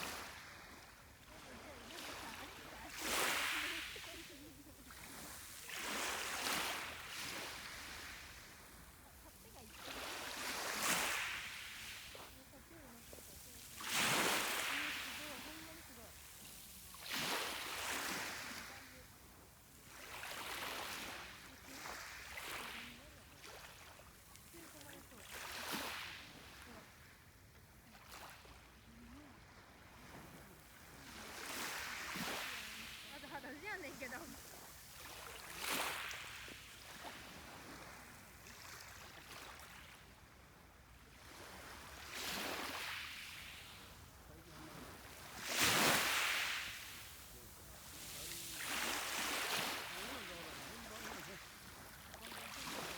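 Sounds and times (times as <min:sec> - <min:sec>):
waves washing onto shore: 0:00.0 - 0:52.9.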